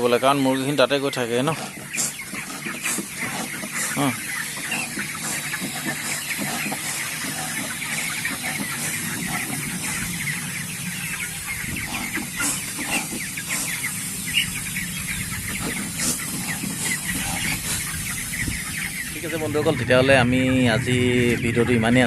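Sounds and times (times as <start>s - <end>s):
chickens peeping and chirping: 0.0s - 22.0s.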